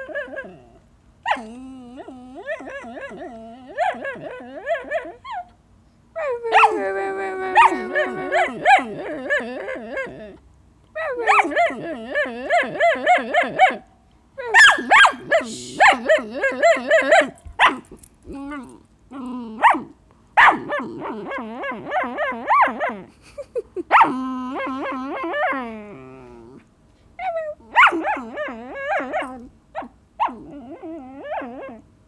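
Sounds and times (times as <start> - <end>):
puppy whining and yowling: 0.0 - 5.6, 6.2 - 31.9.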